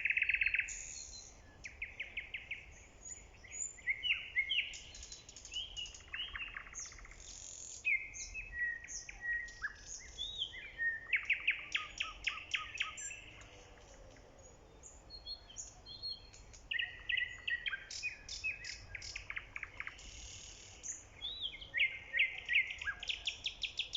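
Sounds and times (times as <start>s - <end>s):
nightingale singing: 0.0s - 23.9s.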